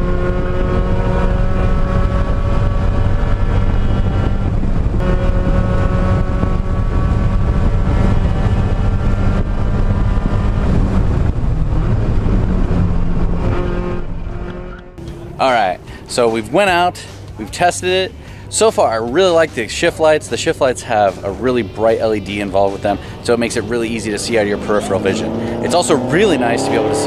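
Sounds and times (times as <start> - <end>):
car engine at full throttle: 0.0 - 18.6, 20.4 - 27.0.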